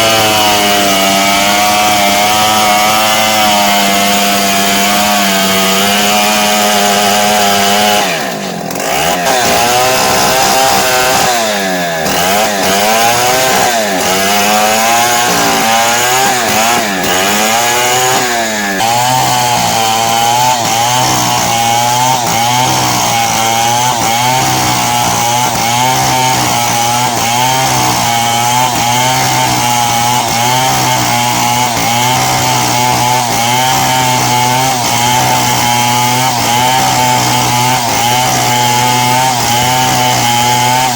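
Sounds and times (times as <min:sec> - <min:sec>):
chainsaw sawing lumber: 0:00.0 - 0:40.9.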